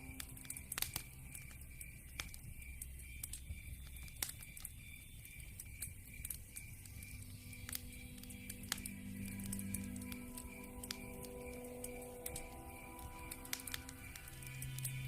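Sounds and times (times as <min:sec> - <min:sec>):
low rumble of burning: 0:00.0 - 0:15.0
wood fire crackling and popping: 0:00.0 - 0:15.0.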